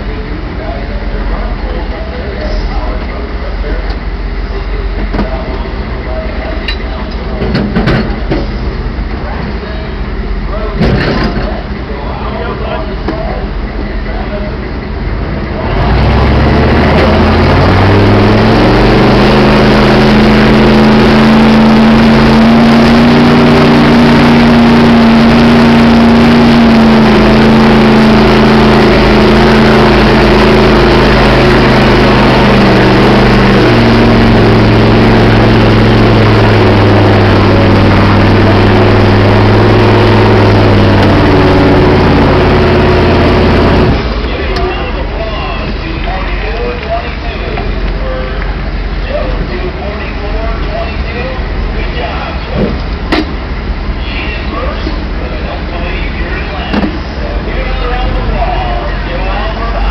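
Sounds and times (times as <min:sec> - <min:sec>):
diesel truck engine revving high: 0:00.0 - 0:59.9.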